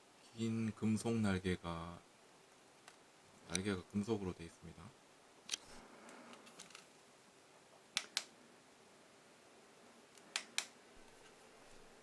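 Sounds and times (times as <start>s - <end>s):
small fan hiss: 0.0s - 12.0s.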